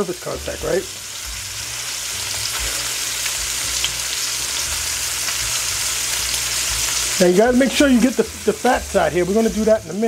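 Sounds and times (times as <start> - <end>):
steaks sizzling in butter: 0.0 - 10.0.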